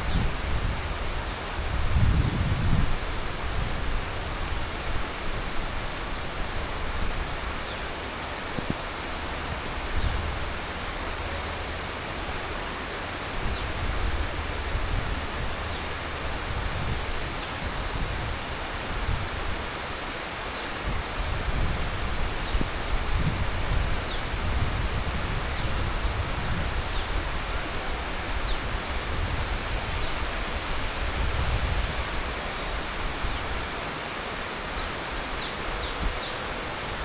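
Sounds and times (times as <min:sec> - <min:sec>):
heavy rain hissing: 0:00.0 - 0:37.0.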